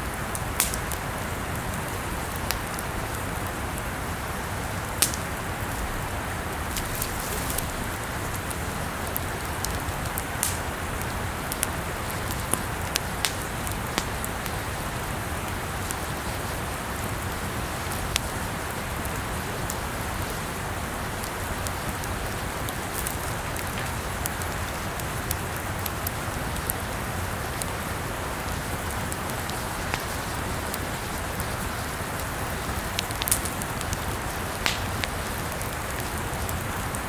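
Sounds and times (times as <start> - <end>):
burning wood crackling and popping: 0.0 - 37.0
campfire hissing: 0.0 - 37.0.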